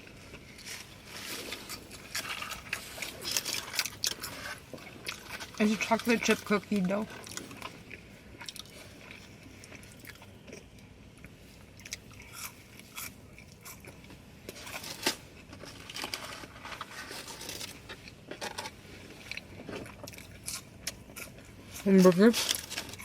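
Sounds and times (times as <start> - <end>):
close chewing with crunchy bites: 0.0 - 23.0.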